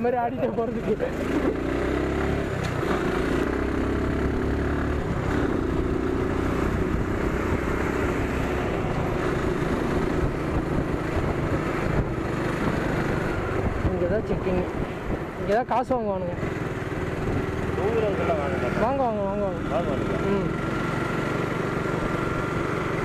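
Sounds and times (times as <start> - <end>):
motorcycle engine cruising: 0.0 - 23.0
road and wind noise: 0.0 - 23.0.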